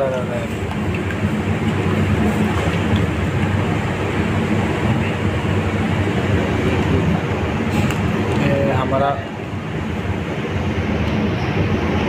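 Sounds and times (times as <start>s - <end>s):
machine drone: 0.0s - 12.0s.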